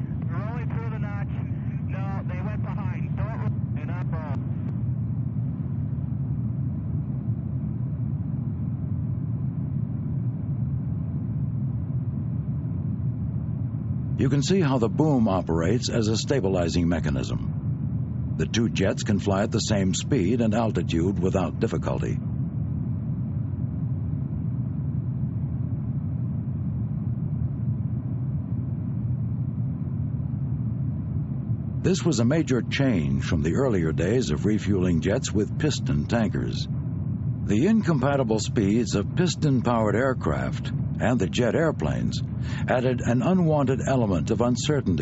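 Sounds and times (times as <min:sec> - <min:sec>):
jet aircraft rumble: 0:00.0 - 0:45.0.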